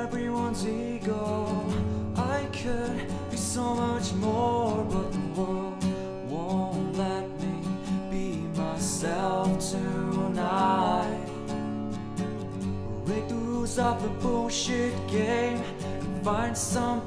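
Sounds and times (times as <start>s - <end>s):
song with guitar and drums: 0.0s - 17.0s.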